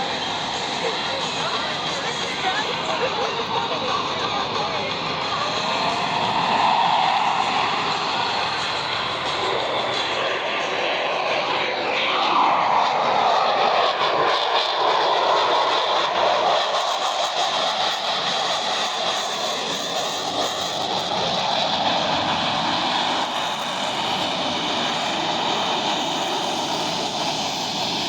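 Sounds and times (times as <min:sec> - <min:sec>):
jet engines at full power: 0:00.0 - 0:28.0.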